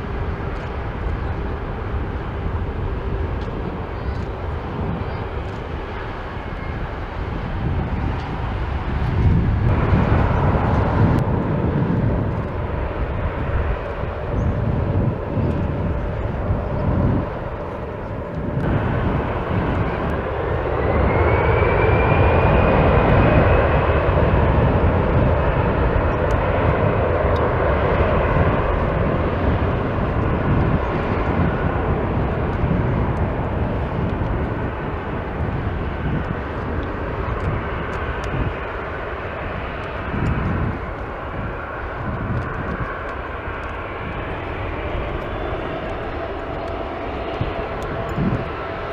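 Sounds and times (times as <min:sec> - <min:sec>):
jet engines spooling up: 0:00.0 - 0:48.9.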